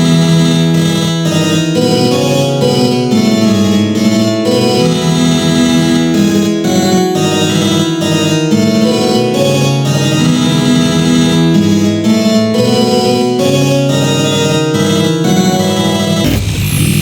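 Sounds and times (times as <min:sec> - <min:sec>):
synthesized keyboard chords: 0:00.0 - 0:17.0.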